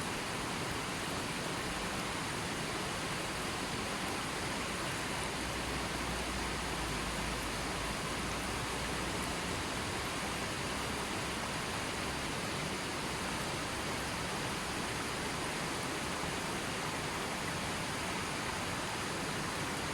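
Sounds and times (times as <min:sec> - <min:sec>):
steady water hiss: 0:00.0 - 0:19.9.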